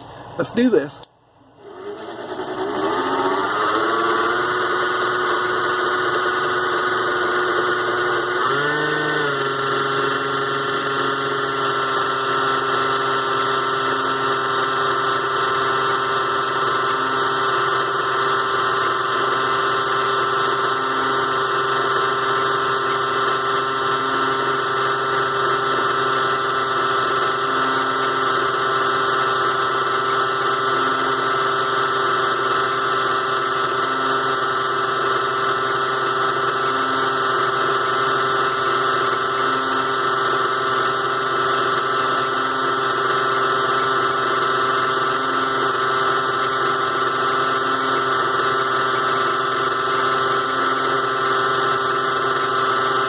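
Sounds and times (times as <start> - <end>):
lathe motor whining: 1.4 - 53.0.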